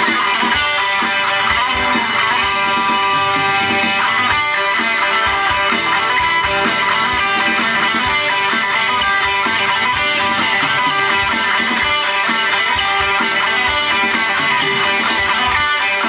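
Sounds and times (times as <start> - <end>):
amplified electric guitar: 0.0 - 16.0
regular rock beat: 0.0 - 16.0.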